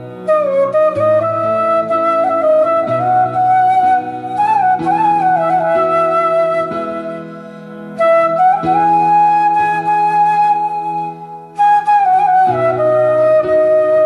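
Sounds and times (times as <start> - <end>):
slow flute melody: 0.0 - 14.0
soft instrumental accompaniment: 0.0 - 14.0.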